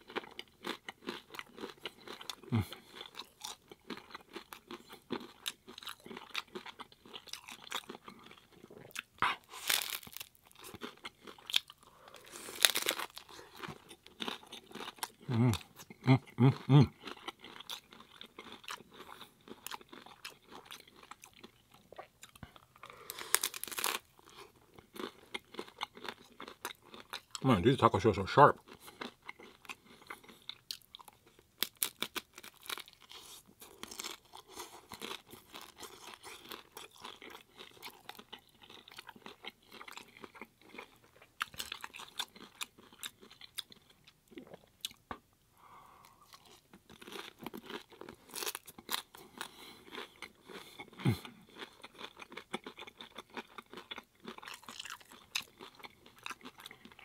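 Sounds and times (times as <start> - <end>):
crunching taco shells: 0.0 - 45.0, 46.2 - 57.0.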